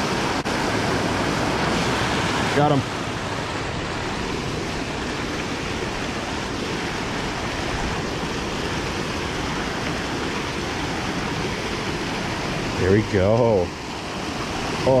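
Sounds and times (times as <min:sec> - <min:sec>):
water rushing into a channel: 0:00.0 - 0:15.0.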